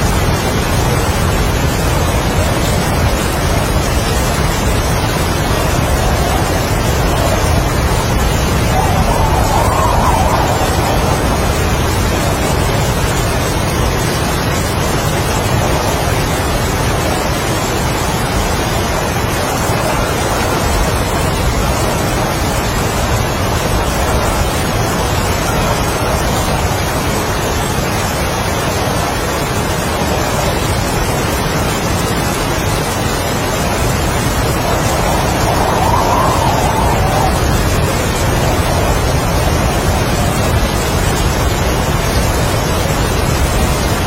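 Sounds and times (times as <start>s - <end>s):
heavy rain: 0.0s - 44.0s
strong wind: 0.0s - 44.0s.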